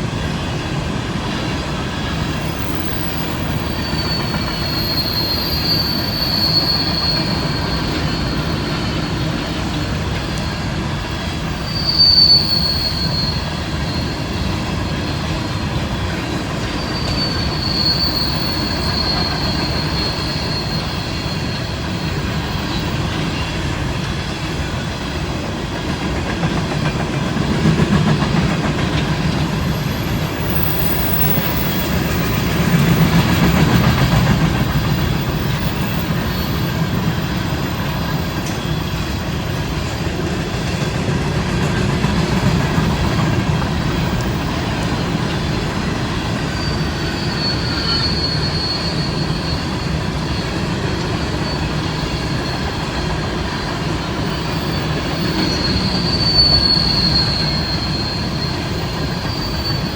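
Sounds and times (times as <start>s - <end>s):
train wheels rumbling on rail: 0.0s - 59.9s
high wheel squeal: 1.9s - 25.5s, 28.0s - 59.9s.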